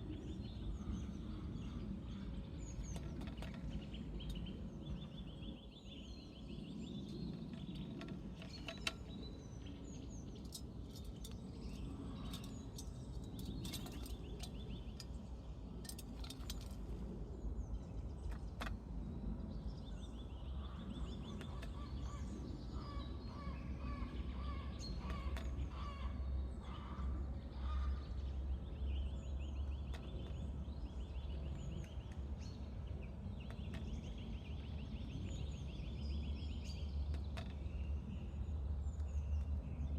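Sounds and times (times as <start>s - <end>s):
small birds singing and chirping: 0.0s - 39.9s
steady low rumble: 0.0s - 39.9s.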